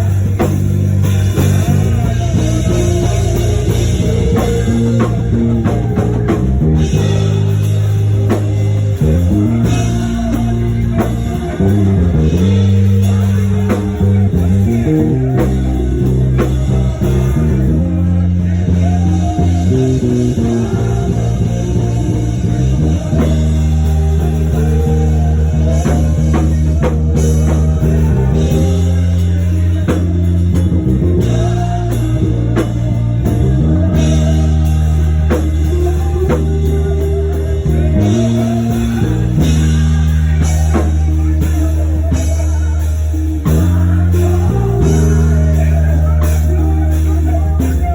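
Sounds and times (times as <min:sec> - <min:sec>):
drum kit: 0:00.0 - 0:47.9
guitar: 0:00.0 - 0:47.9
held bass notes: 0:00.0 - 0:47.9.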